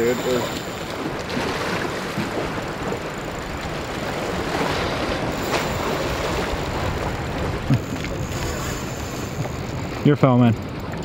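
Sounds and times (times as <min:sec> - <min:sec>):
waves: 0:00.0 - 0:11.0
wind buffeting microphone: 0:00.0 - 0:11.0.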